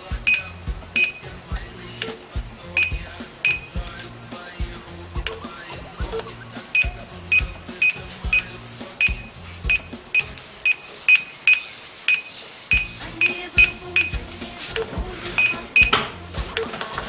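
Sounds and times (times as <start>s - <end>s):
short high electronic beeps: 0.0s - 4.0s, 5.2s - 16.7s
low stepped electronic tones: 0.0s - 16.7s.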